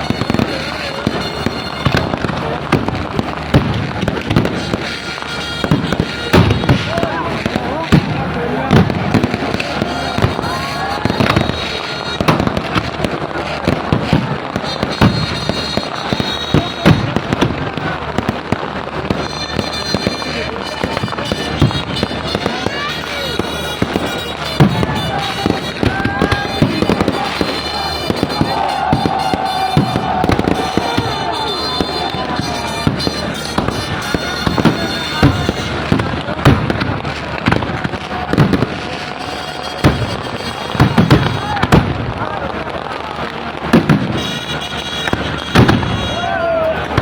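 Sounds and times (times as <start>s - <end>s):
fireworks bangs and pops: 0.0s - 47.0s.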